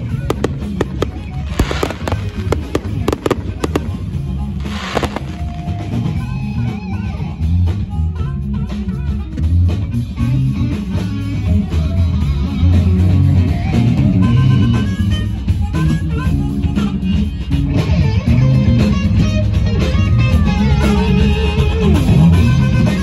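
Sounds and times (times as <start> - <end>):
bass guitar: 0.0 - 23.0
drums: 0.0 - 23.0
guitar: 0.0 - 23.0.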